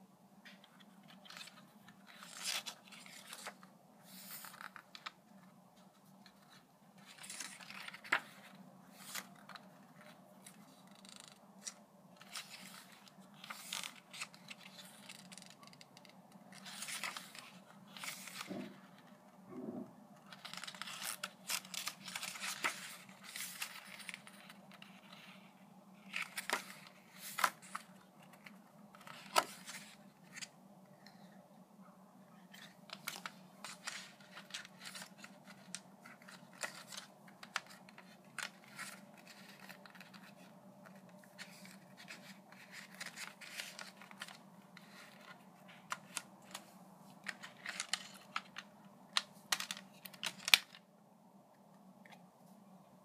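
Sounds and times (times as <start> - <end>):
faint steady hum: 0.0 - 53.0
paper pages rustling: 0.4 - 30.6, 32.4 - 50.8.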